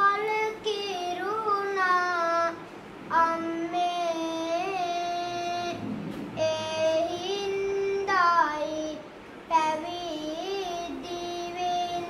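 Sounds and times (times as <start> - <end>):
child chanting verses solo: 0.0 - 5.8, 6.4 - 12.0.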